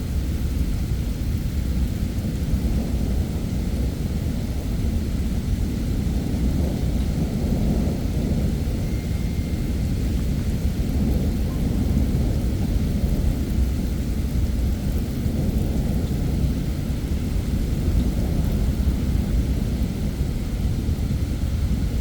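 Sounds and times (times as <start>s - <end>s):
heavy rain: 0.0s - 22.0s
rolling thunder rumble: 0.0s - 22.0s.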